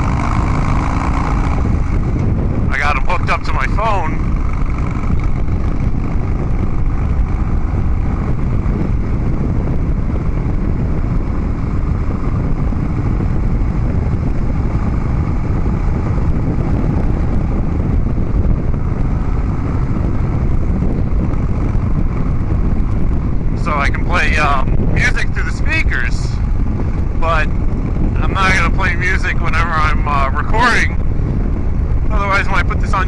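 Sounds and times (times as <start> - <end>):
motorcycle engine at steady cruise: 0.0 - 33.0.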